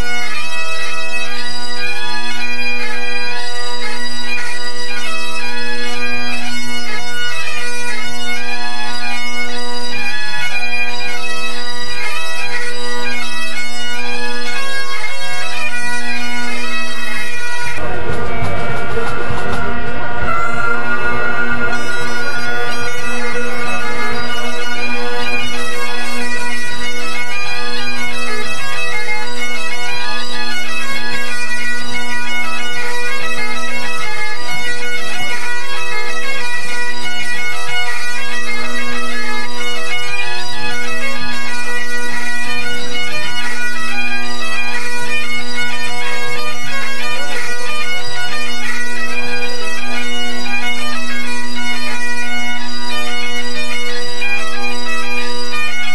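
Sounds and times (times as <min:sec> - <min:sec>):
bagpipe chanter notes: 0:00.0 - 0:55.9
bagpipe drone: 0:00.0 - 0:55.9.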